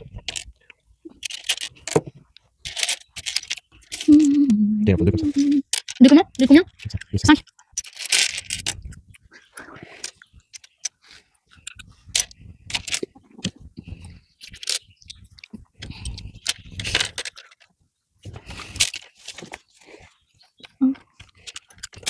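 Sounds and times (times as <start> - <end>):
plastic bricks clicking and rattling: 0.0 - 9.0, 11.5 - 19.7, 20.6 - 22.0.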